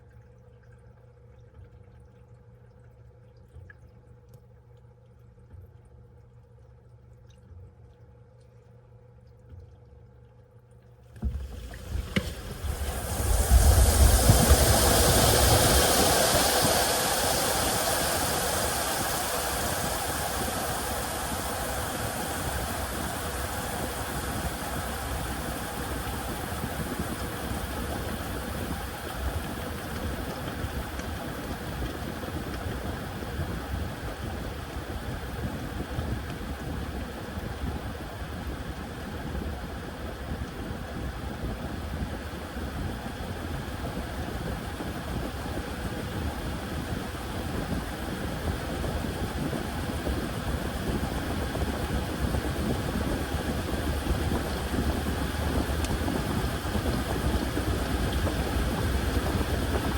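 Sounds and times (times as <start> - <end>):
washing machine running: 4.7 - 59.9.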